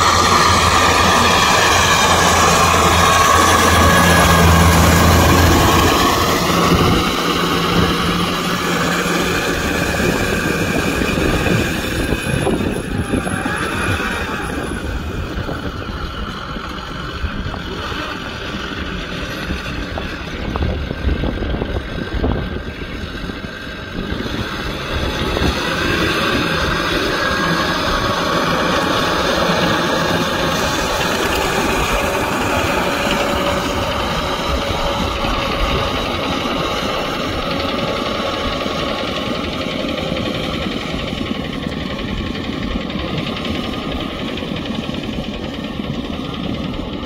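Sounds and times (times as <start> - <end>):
rotavator churning mud: 0.0 - 47.0
tractor diesel engine under load: 0.0 - 47.0.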